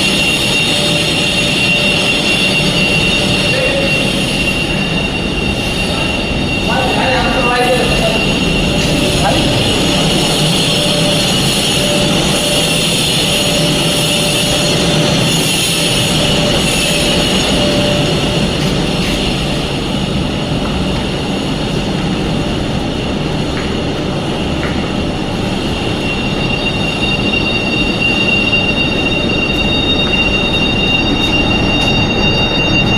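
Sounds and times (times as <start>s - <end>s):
high-pitched whine: 0.0s - 32.9s
loud machinery noise: 0.0s - 32.9s.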